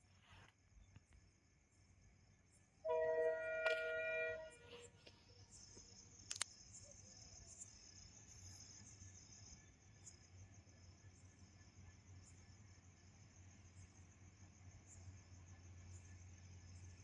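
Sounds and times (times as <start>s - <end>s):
faint crickets trilling: 0.0s - 17.0s.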